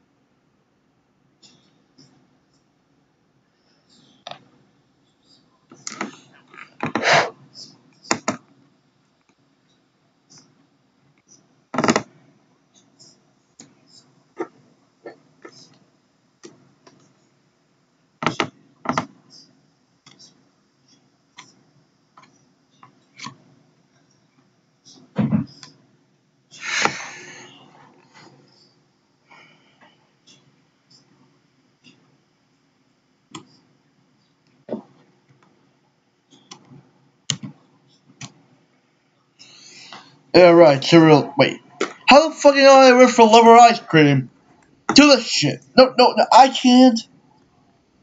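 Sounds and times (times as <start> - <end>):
faint steady background noise: 0.0 - 48.0.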